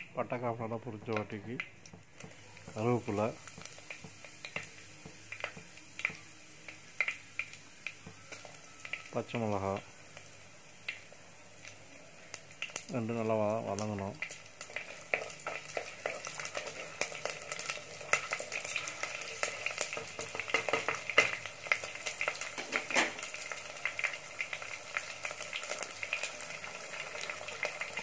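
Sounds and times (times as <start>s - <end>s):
spices sizzling in hot oil: 0.0s - 28.0s.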